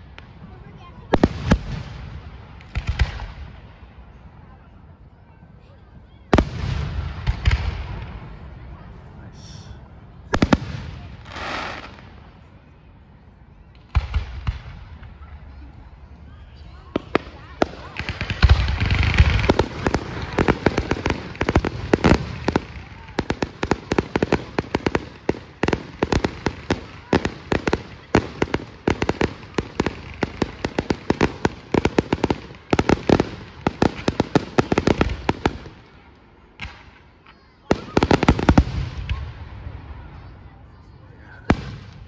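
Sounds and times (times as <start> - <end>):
fireworks cracking and booming: 0.0 - 3.8, 6.3 - 8.6, 10.3 - 12.4, 13.7 - 15.6, 16.9 - 40.4, 41.4 - 42.0.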